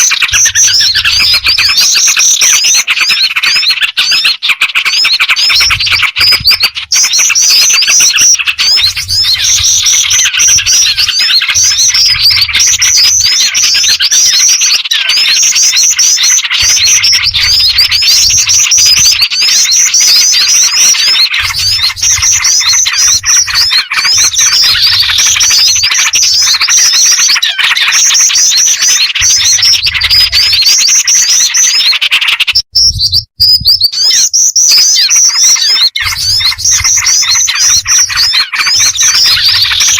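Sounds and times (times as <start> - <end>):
bird calling: 0.0 - 33.0, 33.9 - 39.9
small birds chirping: 0.0 - 39.9.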